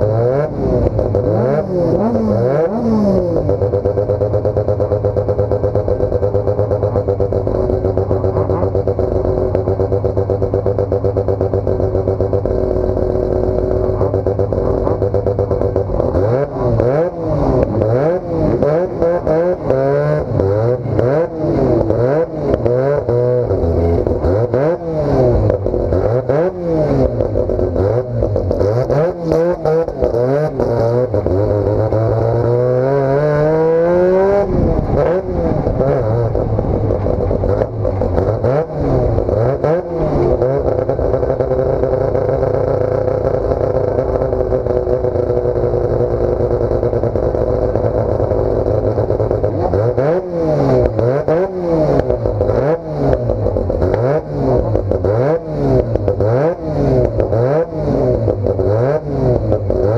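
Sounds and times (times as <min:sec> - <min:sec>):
rotary engine idling and revving: 0:00.0 - 0:59.9.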